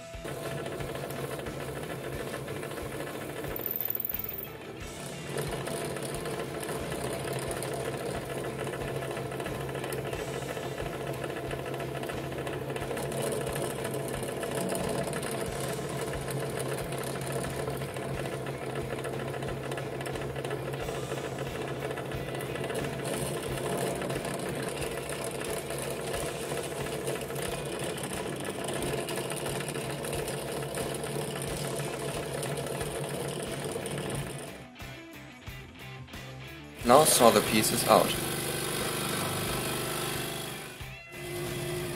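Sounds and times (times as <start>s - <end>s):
drill press drilling wood: 0.0s - 34.6s, 36.9s - 41.9s.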